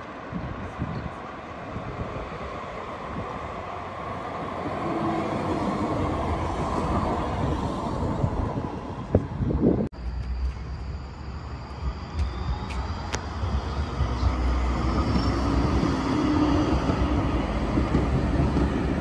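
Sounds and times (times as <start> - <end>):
tram running on rails: 0.0 - 19.0.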